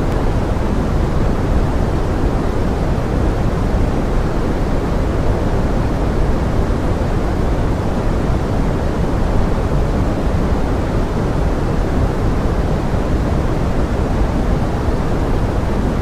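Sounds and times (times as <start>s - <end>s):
pink noise hiss: 0.0s - 16.0s.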